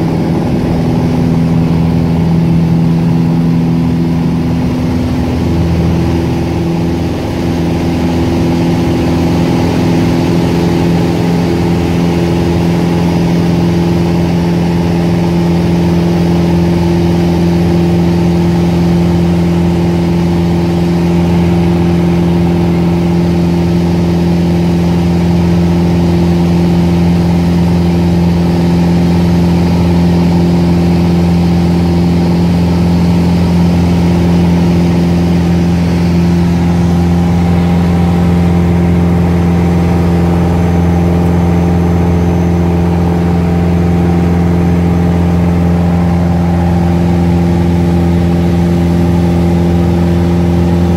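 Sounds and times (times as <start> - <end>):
airplane engine and propeller drone: 0.0 - 50.9.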